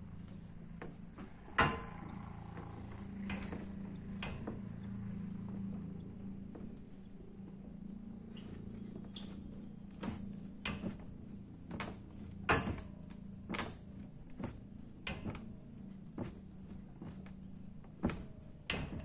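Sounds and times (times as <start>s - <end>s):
machine knocking and clanking: 0.2s - 19.0s.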